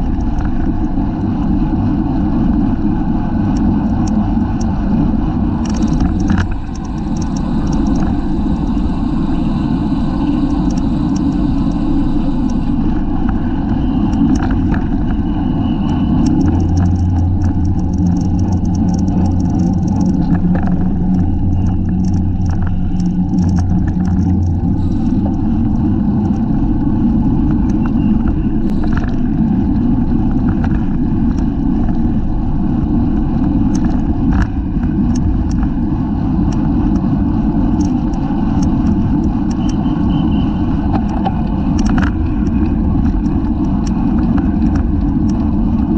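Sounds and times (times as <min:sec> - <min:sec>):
bicycle clicks and rattles: 0:00.0 - 0:45.9
low steady hum: 0:00.0 - 0:45.9
wind rushing over microphone: 0:00.0 - 0:45.9.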